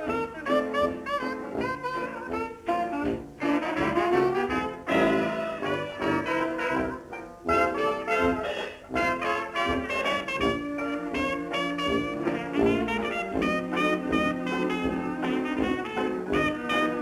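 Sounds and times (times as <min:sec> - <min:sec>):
jazz band brass music: 0:00.0 - 0:17.0.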